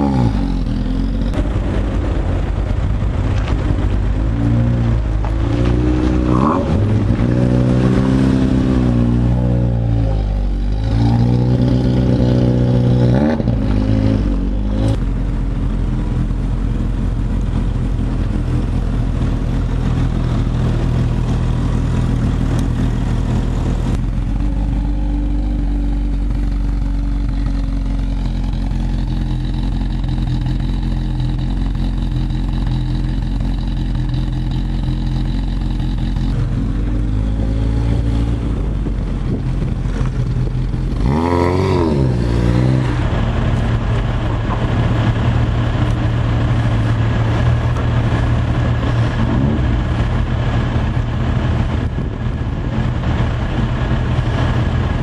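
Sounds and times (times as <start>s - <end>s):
car engine idling: 0.0s - 41.3s, 42.3s - 55.0s
car engine revving: 0.0s - 55.0s.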